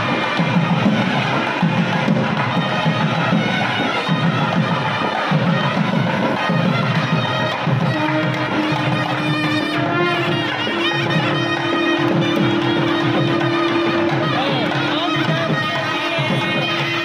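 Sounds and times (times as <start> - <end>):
drums with steady beat: 0.0 - 17.0
loud wind instrument playing: 0.0 - 17.0.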